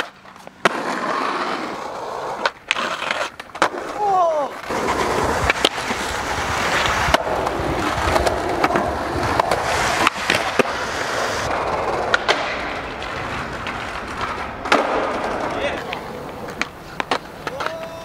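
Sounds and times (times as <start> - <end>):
skateboard clacking on ground: 0.0 - 18.0
skateboard wheels rolling on pavement: 0.0 - 18.0.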